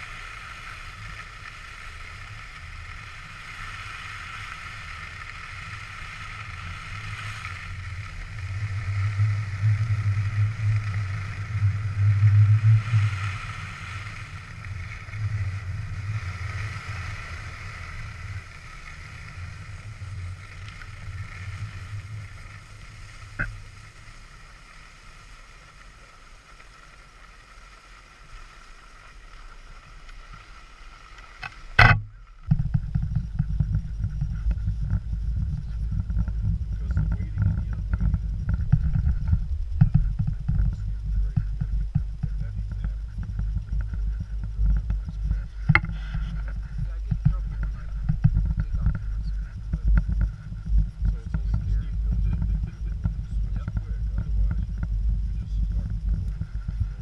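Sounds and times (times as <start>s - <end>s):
skis sliding on snow: 0.0s - 57.0s
wind rumble on microphone: 0.0s - 57.0s.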